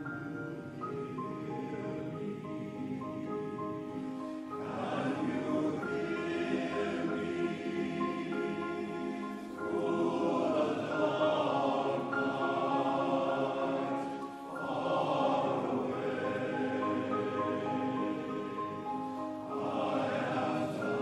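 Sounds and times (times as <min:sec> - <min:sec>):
male voice choir singing: 0:00.0 - 0:03.8, 0:04.5 - 0:21.0.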